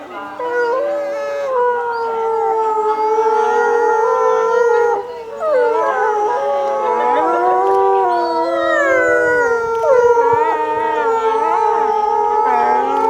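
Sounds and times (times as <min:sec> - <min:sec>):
wolves howling in chorus: 0:00.0 - 0:13.0.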